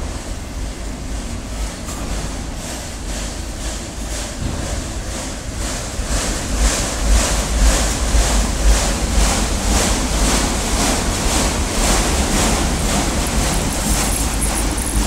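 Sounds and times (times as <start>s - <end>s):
train wheels roaring on rail: 0.0s - 15.0s.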